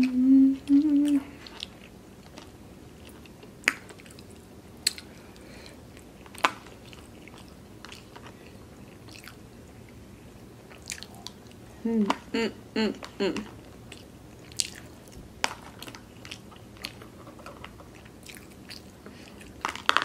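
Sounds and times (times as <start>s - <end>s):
person chewing food: 0.6s - 11.7s, 13.0s - 20.0s.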